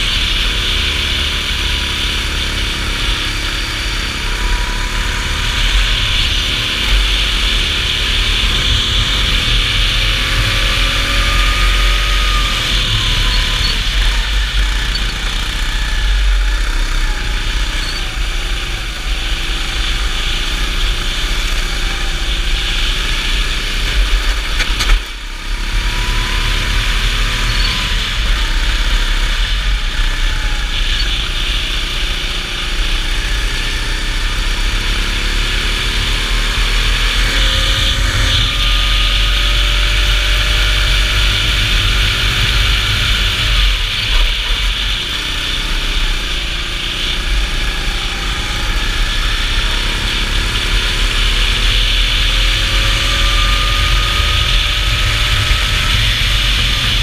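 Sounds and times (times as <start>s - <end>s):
steady rush of noise: 0.0s - 25.5s, 36.2s - 57.0s
go-kart engine revving: 0.0s - 57.0s.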